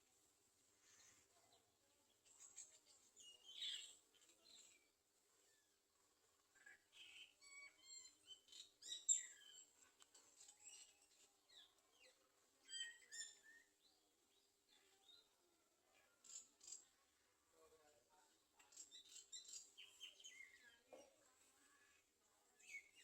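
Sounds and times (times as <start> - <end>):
sunbirds chirping and twittering: 0.0 - 23.0.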